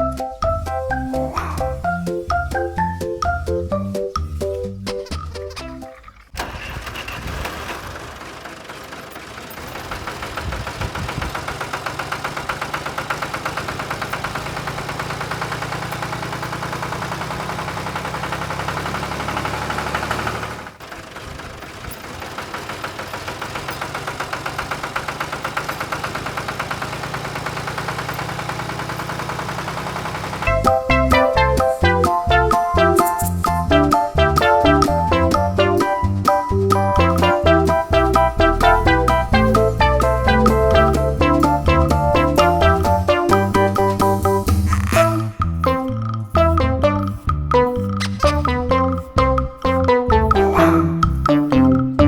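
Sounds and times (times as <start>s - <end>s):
small engine running: 6.0s - 52.0s.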